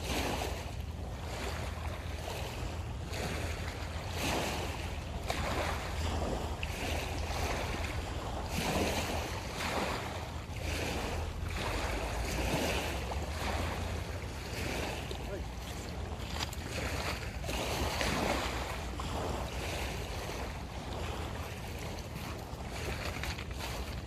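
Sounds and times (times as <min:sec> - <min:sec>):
small waves washing on shore: 0:00.0 - 0:24.0
wind rumble on microphone: 0:00.0 - 0:24.0.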